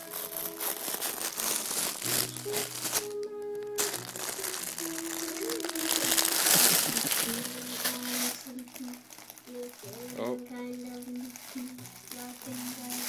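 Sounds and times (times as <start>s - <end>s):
fabric and toys rustling: 0.0s - 13.0s.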